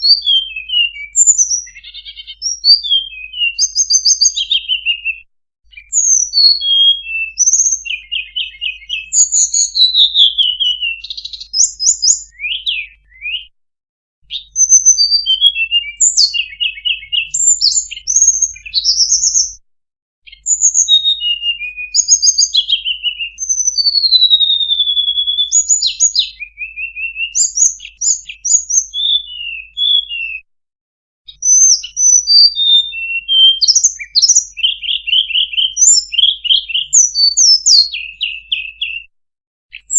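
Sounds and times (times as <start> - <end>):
small birds chirping and trilling: 0.0 - 13.5, 14.3 - 19.6, 20.3 - 30.4, 31.3 - 39.1.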